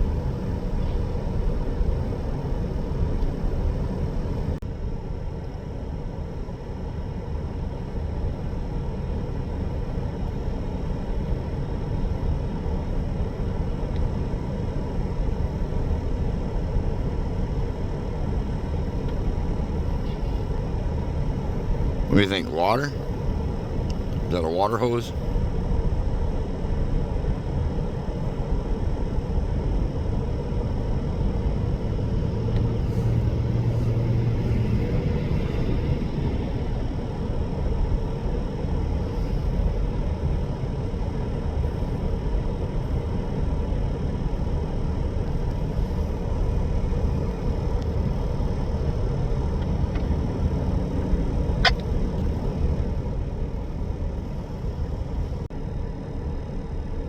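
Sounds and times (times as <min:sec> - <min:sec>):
diesel locomotives idling: 0:00.0 - 0:57.0.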